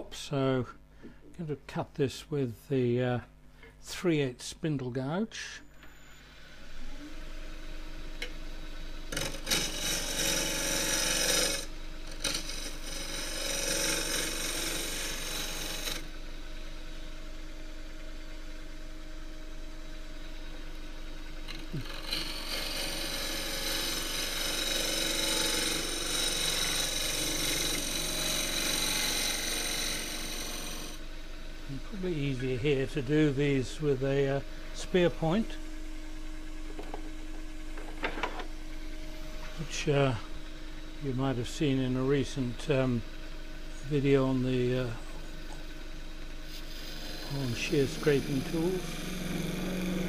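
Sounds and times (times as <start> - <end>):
wood lathe motor hum: 8.2 - 50.0.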